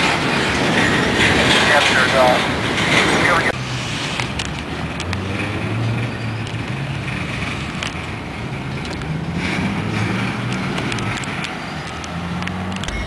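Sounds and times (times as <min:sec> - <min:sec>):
train wheels rumbling on rail: 0:00.0 - 0:13.0
wheels clicking over rail joints: 0:00.0 - 0:13.0.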